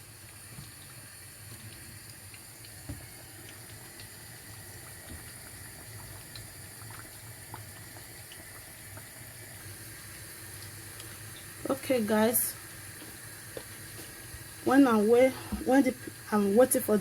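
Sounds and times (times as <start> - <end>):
frying sizzle with pops: 0.0 - 17.0.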